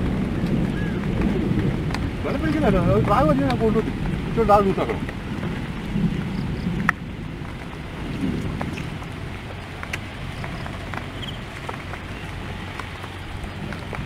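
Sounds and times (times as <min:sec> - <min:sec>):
light rain falling: 0:00.0 - 0:14.0
raindrops ticking: 0:00.0 - 0:14.0
steady low rumble: 0:00.0 - 0:14.0.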